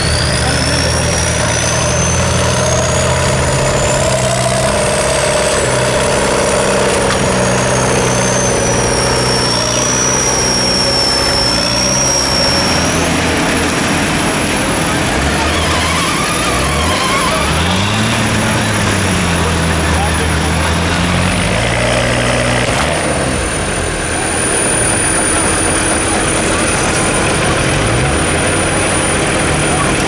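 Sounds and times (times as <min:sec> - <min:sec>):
off-road engines under load: 0:00.0 - 0:30.0.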